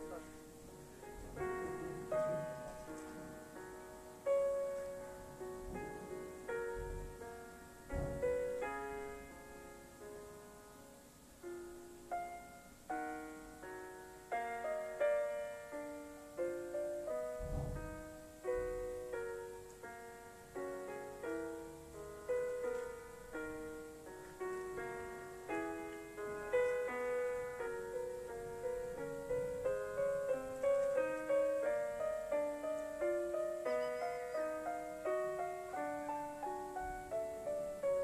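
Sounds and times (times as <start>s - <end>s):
solo piano music: 0.0s - 38.0s.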